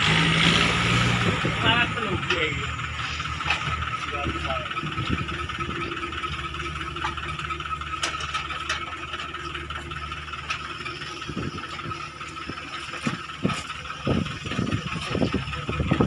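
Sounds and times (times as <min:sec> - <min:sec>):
distant diesel engine hum: 0:00.0 - 0:16.0
faint clanks: 0:02.2 - 0:16.0.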